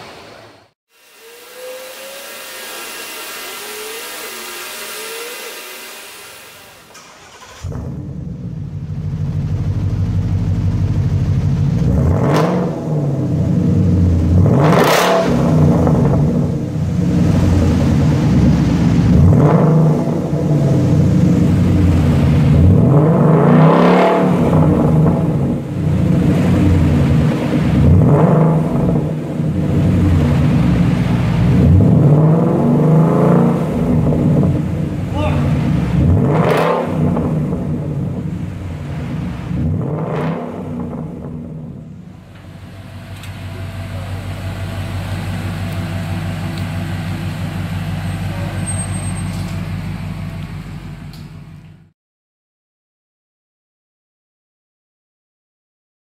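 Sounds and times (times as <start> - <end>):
car engine idling and revving: 1.0 - 51.9.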